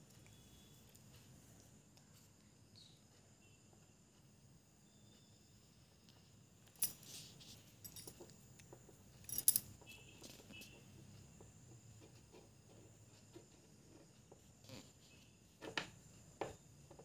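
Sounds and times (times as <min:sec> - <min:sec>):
faint background hum: 0:00.0 - 0:17.0.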